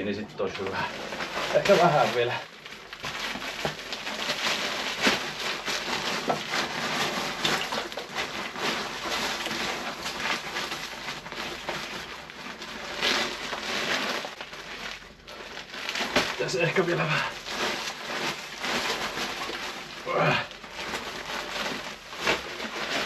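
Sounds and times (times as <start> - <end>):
paper sack crackling: 0.0 - 23.0.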